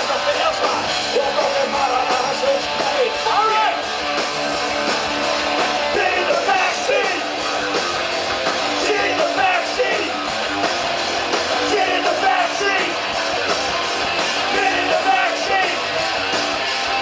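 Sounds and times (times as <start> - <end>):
electric guitar: 0.0 - 17.0
live rock band playing: 0.0 - 17.0.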